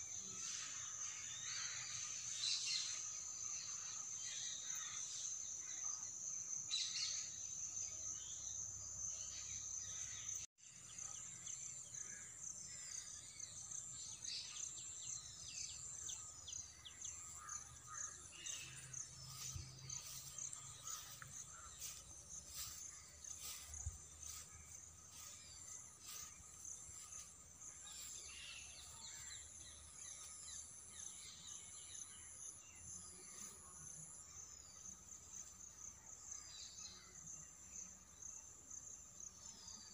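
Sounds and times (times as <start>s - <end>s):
birds chirping: 0.0s - 35.5s
insect drone: 0.0s - 39.9s.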